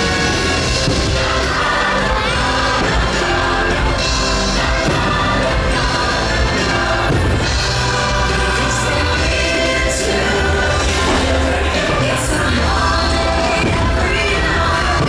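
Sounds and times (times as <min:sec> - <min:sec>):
crowd cheering: 0:00.0 - 0:15.0
firework bangs: 0:00.0 - 0:15.0
orchestral christmas music with singing: 0:00.0 - 0:15.0.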